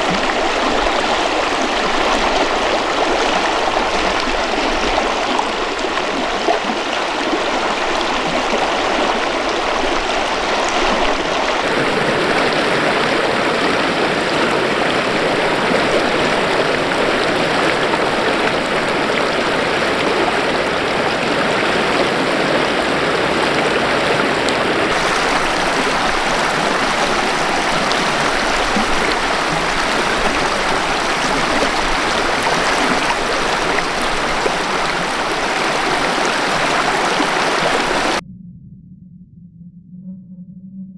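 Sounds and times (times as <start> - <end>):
river water rushing: 0.0 - 38.2.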